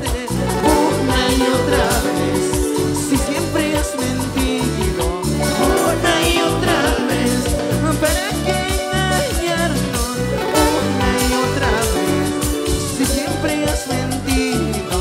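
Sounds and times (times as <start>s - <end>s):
driving bass beat: 0.0s - 15.0s
live latin dance band: 0.0s - 15.0s
person singing: 0.0s - 15.0s.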